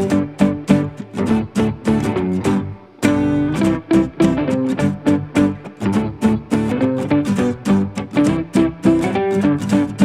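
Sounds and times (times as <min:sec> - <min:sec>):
plucked guitar music: 0:00.0 - 0:10.0.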